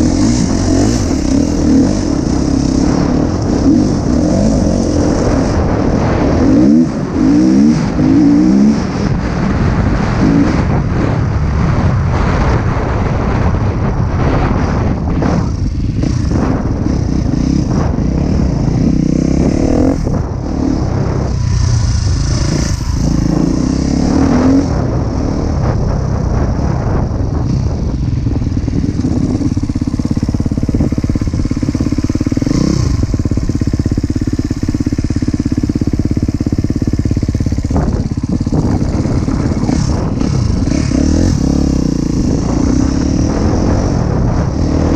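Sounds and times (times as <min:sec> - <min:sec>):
motocross bike engine revving: 0:00.0 - 0:10.9, 0:14.2 - 0:27.0, 0:27.6 - 0:44.9.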